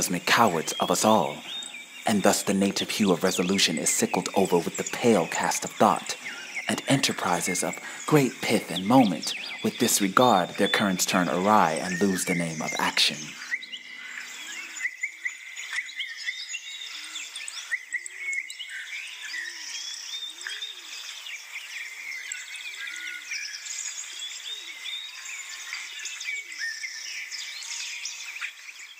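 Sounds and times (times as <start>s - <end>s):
birds chirping and singing: 0.0s - 28.9s.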